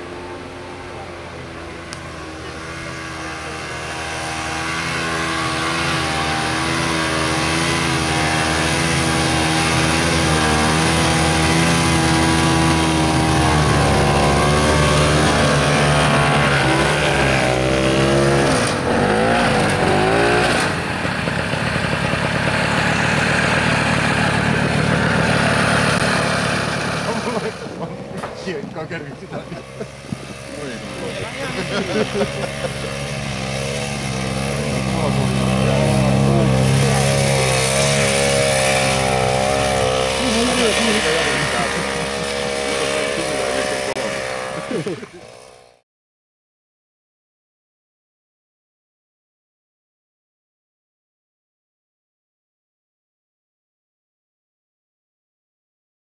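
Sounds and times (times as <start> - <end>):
snowmobile engine running: 0.0 - 45.8.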